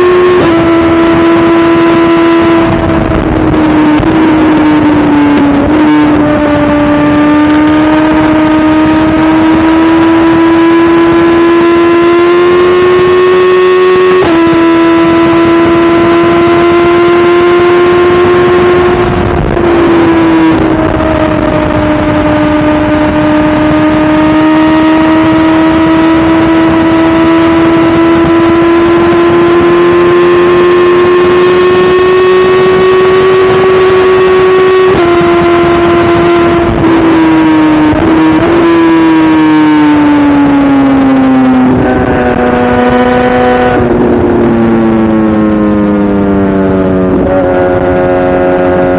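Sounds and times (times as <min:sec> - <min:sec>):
motorcycle engine at high revs: 0:00.0 - 0:48.9.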